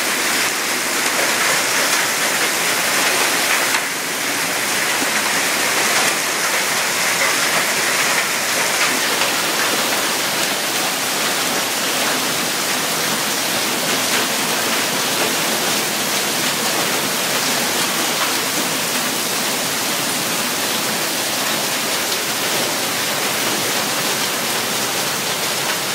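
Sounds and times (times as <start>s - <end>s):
torrential rain pouring: 0.0s - 25.9s.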